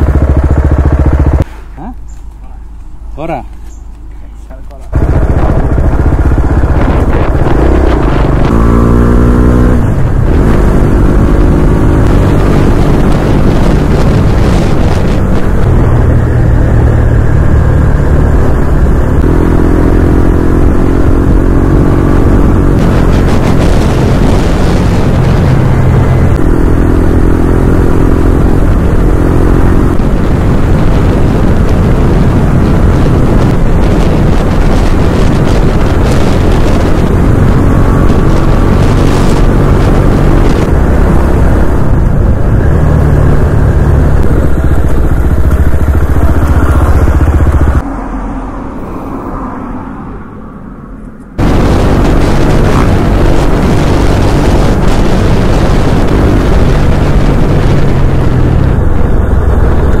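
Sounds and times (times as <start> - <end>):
vehicle engine running: 0.0 - 48.9, 51.0 - 60.0
wind buffeting microphone: 4.9 - 60.0.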